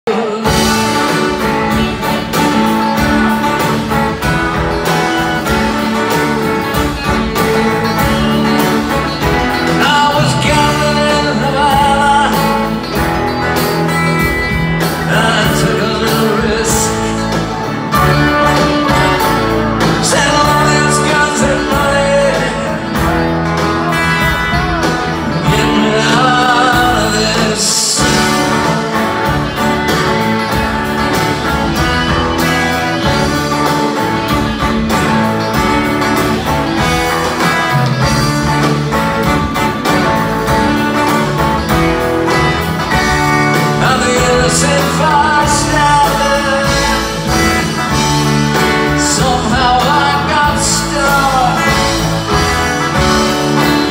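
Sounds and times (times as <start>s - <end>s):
live country-rock band playing: 0.0s - 53.9s.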